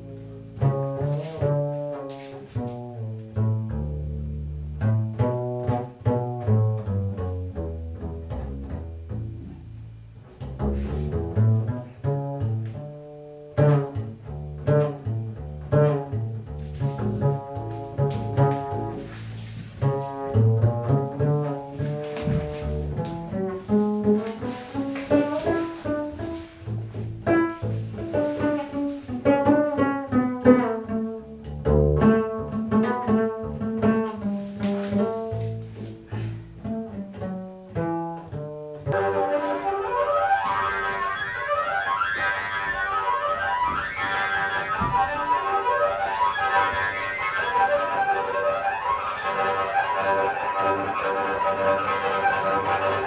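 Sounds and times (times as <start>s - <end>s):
double bass plucked notes: 0.0s - 53.0s.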